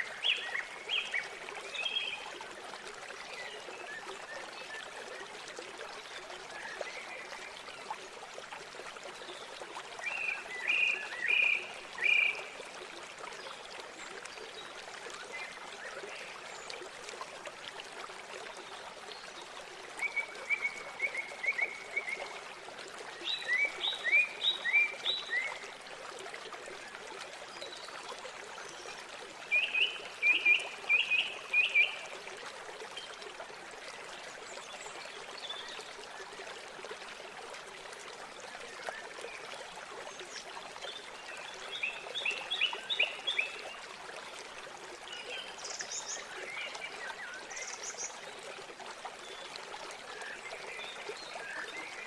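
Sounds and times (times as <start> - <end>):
flowing river water: 0.0 - 52.0.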